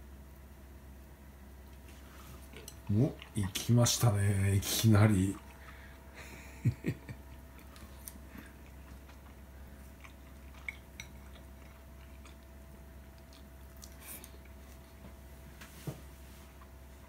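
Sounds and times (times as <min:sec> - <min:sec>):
faint steady hum: 0:00.0 - 0:17.0
quiet chewing: 0:01.6 - 0:17.0.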